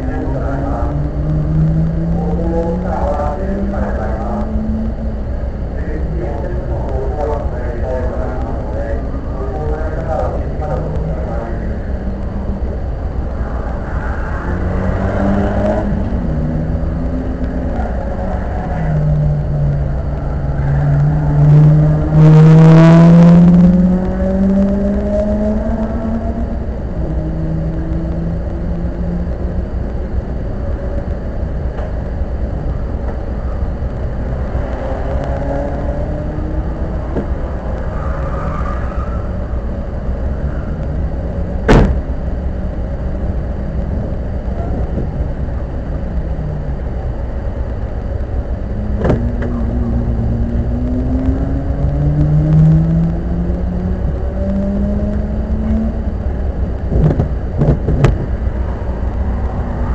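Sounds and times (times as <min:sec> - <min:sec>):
car engine accelerating: 0:00.0 - 0:59.9
road rumble: 0:00.0 - 0:59.9.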